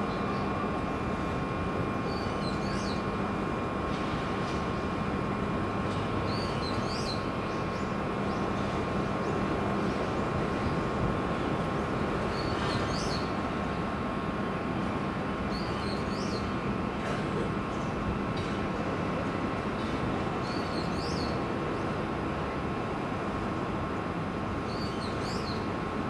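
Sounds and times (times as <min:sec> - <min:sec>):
electric train equipment humming: 0:00.0 - 0:26.0.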